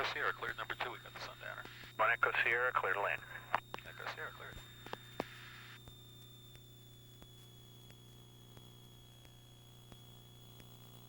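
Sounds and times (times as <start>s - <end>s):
faint steady hum: 0.0s - 11.0s
thin high whine: 0.0s - 11.0s.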